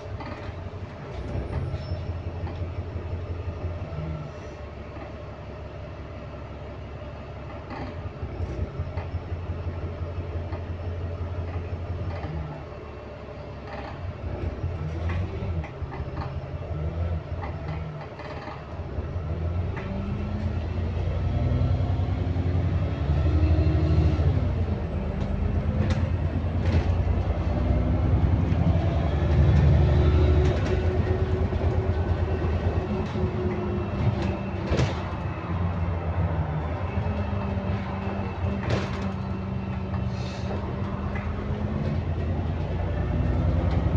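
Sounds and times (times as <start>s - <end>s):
bus engine rumble: 0.0s - 43.9s
bus groaning: 0.0s - 43.9s.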